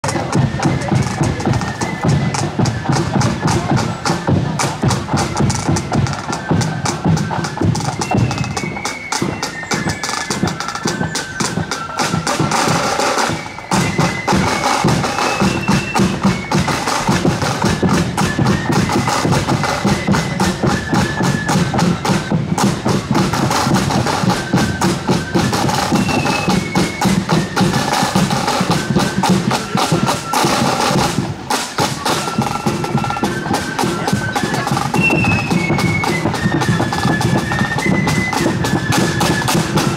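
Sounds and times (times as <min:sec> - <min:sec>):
drum beats: 0:00.0 - 0:39.9
shrill flute melody: 0:00.0 - 0:39.9
snare drum rolls: 0:00.0 - 0:39.9.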